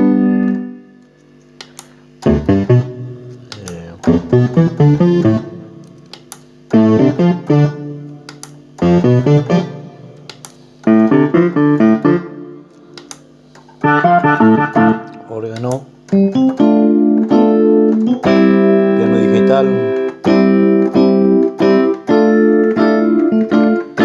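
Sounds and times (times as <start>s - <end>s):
electronic keyboard piano chords: 0.0s - 24.0s.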